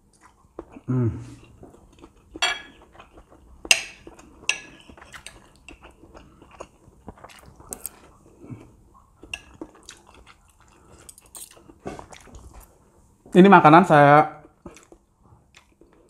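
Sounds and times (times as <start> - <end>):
chewing: 0.0 - 12.9, 14.4 - 16.0.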